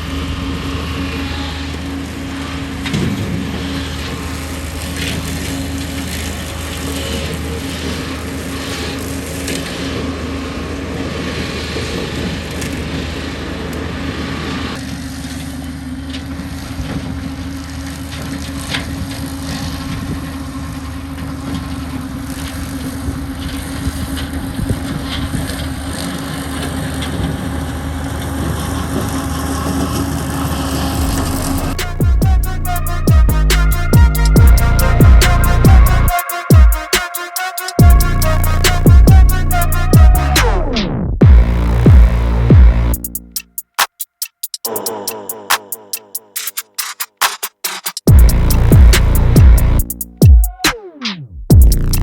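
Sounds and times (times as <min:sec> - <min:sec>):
machine engine running: 0:00.0 - 0:43.6, 0:48.1 - 0:50.6, 0:51.5 - 0:52.0.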